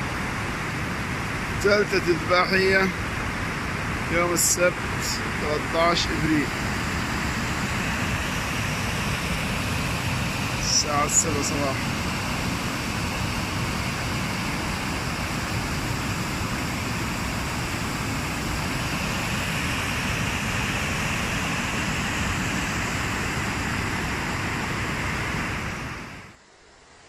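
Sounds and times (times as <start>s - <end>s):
floodwater rushing: 0.1s - 26.0s.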